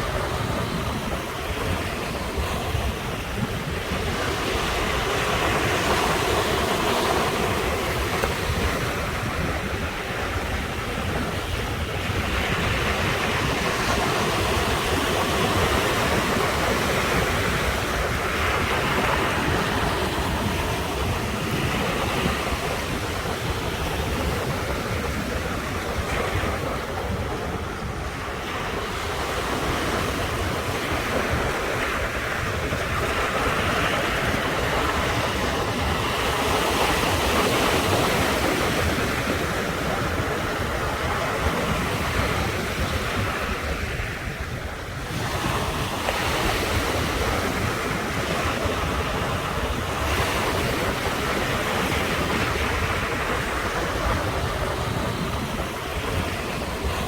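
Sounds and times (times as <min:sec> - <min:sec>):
ocean surf breaking on shore: 0:00.0 - 0:57.0
wind rumbling on microphone: 0:00.0 - 0:57.0.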